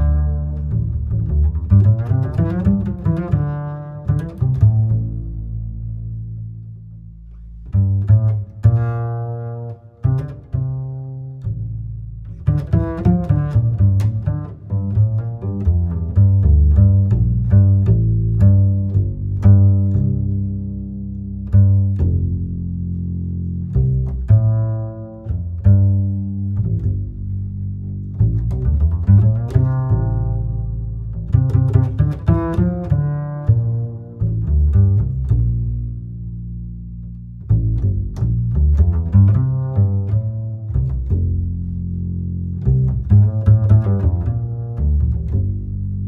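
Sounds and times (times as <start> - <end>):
plucked string bass notes: 0.0 - 46.0.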